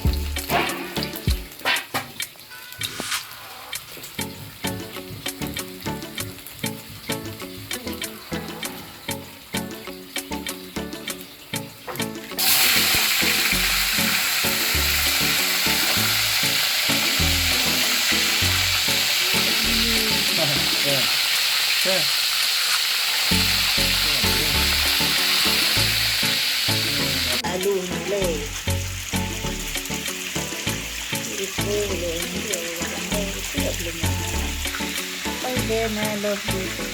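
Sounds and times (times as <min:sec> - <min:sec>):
background music with a beat: 0:00.0 - 0:21.0, 0:23.3 - 0:36.9
food sizzling in hot oil: 0:00.0 - 0:36.9.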